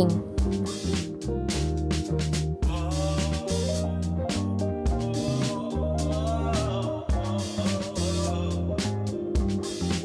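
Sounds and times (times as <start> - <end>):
funk soul music: 0.0 - 10.0.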